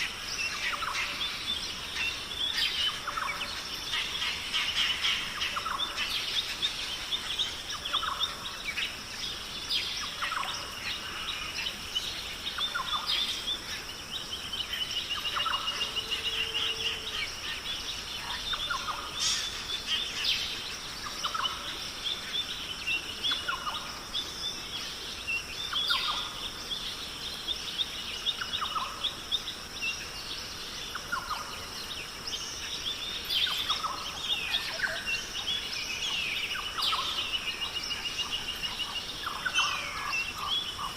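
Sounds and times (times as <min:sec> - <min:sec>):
birds calling and chirping: 0:00.0 - 0:40.9.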